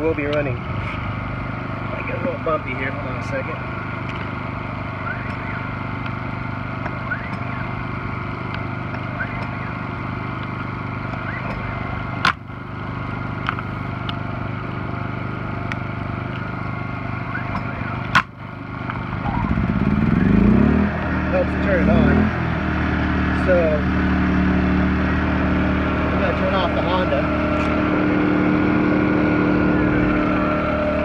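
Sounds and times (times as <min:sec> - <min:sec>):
generator running: 0:00.0 - 0:31.0.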